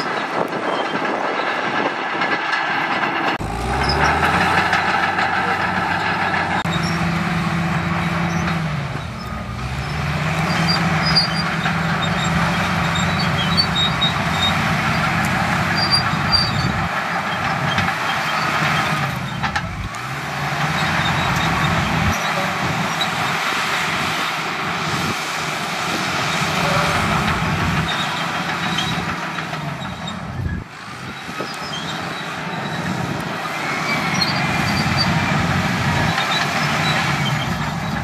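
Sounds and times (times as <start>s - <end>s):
bulldozer diesel engine under load: 0.0s - 38.0s.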